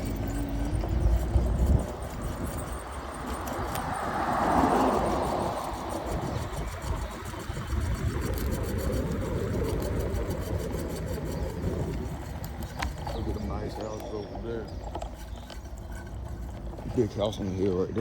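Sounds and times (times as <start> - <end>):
vehicle passing: 0.0 - 14.8
scooter tyre noise: 0.0 - 18.0
wind rumbling on microphone: 0.0 - 18.0.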